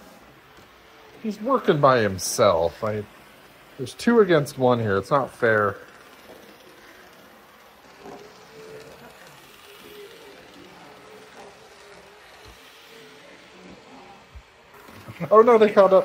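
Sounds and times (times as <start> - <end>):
small motors whirring: 0.0 - 16.0.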